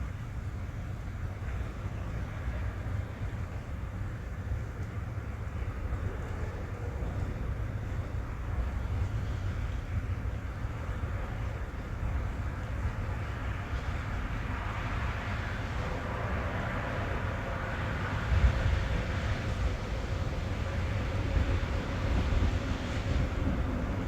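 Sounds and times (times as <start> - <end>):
rain on a car roof: 0.3 - 24.0.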